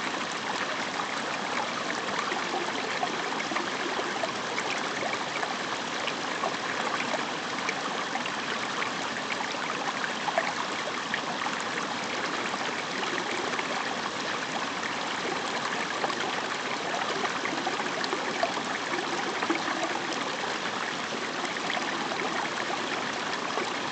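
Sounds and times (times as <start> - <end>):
stream trickling and gurgling: 0.0 - 23.9.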